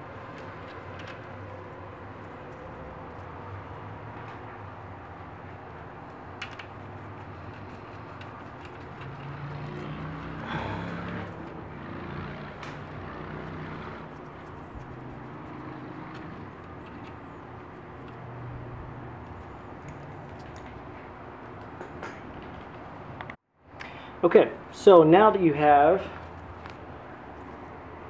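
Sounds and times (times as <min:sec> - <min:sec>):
low engine-like hum: 0:00.0 - 0:24.8.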